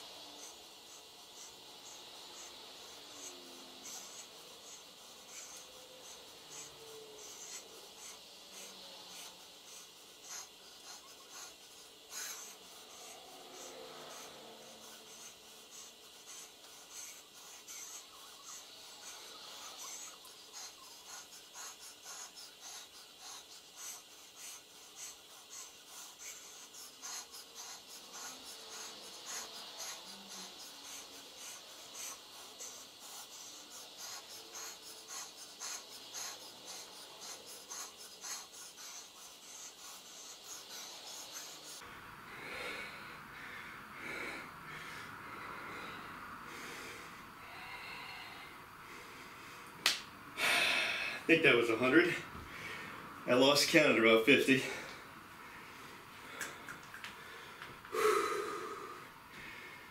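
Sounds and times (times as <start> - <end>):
man breathing hard: 0.0 - 53.2, 54.6 - 59.9.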